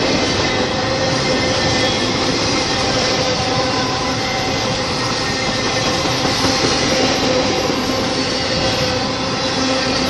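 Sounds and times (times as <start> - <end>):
train wheels rumbling and clattering: 0.0 - 10.0.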